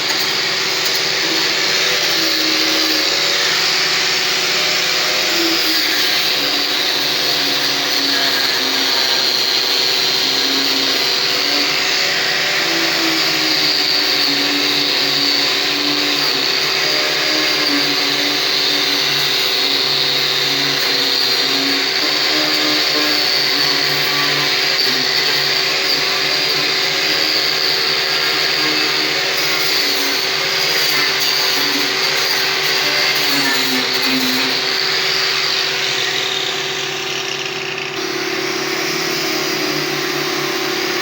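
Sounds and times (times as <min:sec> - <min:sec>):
power tool motor whine: 0:00.0 - 0:41.0.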